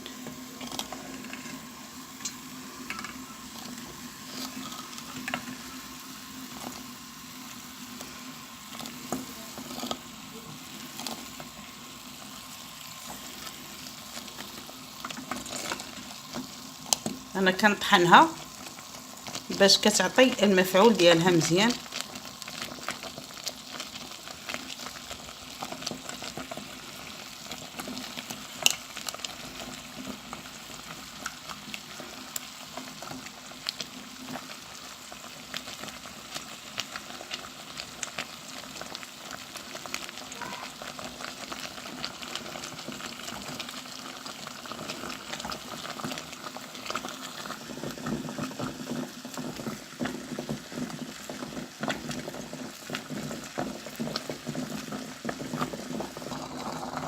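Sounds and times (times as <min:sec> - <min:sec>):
oil sizzling and bubbling: 0:00.0 - 0:57.0.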